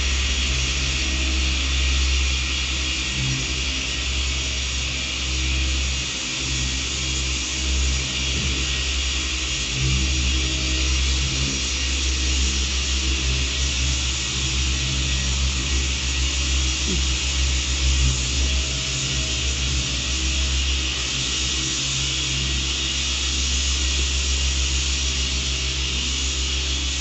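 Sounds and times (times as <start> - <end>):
electric polisher running: 0.0 - 27.0.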